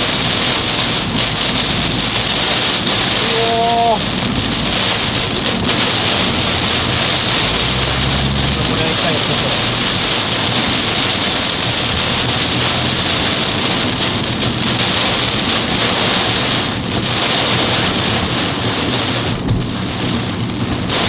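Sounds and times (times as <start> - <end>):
rain drumming on car roof: 0.0 - 21.0.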